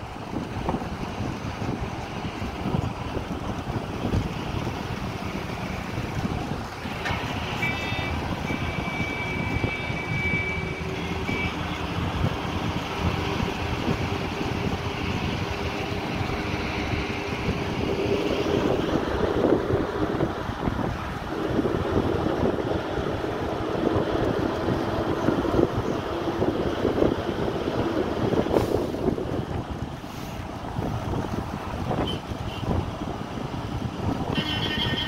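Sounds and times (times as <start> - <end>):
road noise inside vehicle: 0.0 - 35.0
wind buffeting microphone: 0.0 - 35.0.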